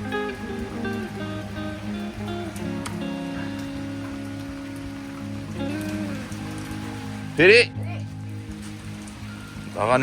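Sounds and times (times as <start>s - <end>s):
background music: 0.0s - 10.0s
steady rain falling: 0.0s - 10.0s.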